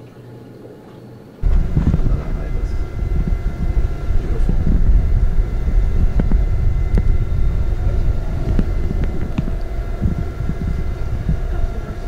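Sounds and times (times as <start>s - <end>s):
boat engine rumble: 1.4s - 12.0s
wind buffeting microphone: 1.4s - 12.0s.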